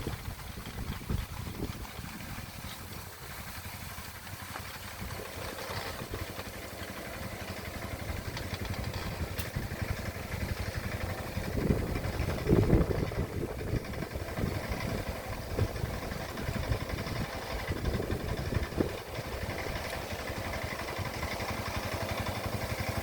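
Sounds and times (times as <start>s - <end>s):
plowing machine engine running: 0.0s - 23.0s.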